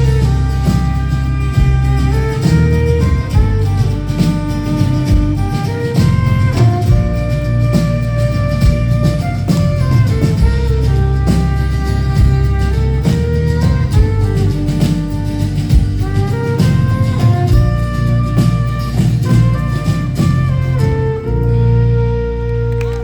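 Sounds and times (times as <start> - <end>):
steady drum beat: 0.0 - 22.2
live band playing instrumental: 0.0 - 23.0.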